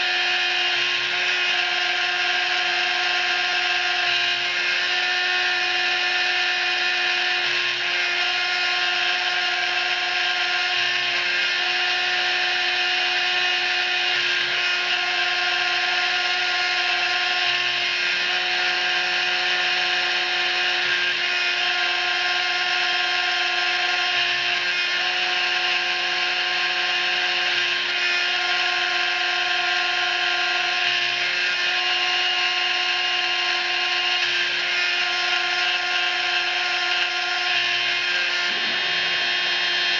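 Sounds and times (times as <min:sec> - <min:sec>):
milling machine high whine: 0:00.0 - 0:39.9.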